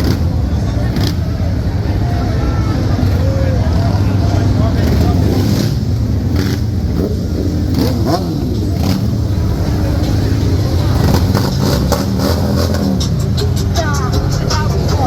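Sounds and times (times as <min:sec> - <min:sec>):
motorcycle engines revving: 0:00.0 - 0:15.0
voices: 0:00.0 - 0:15.0.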